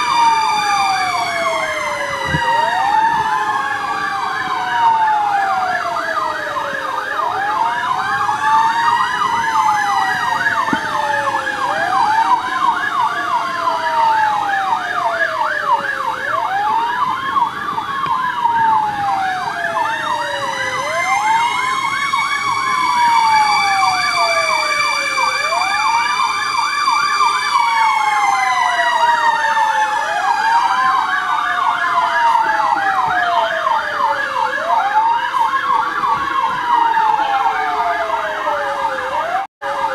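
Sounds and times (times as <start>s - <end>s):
siren wailing: 0.0s - 39.9s
siren yelping: 0.0s - 39.9s
slow rising and falling siren: 0.0s - 39.9s.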